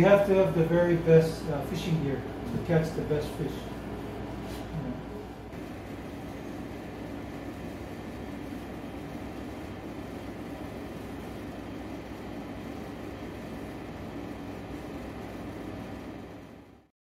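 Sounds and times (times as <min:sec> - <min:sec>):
air conditioner humming: 0:00.0 - 0:16.9.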